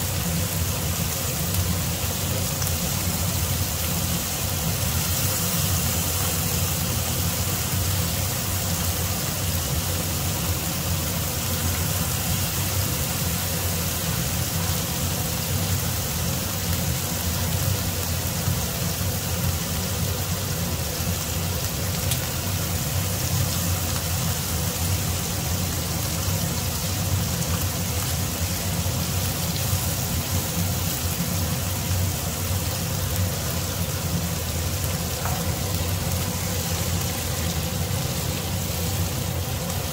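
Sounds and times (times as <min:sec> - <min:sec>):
meat sizzling in a pan: 0:00.0 - 0:39.9.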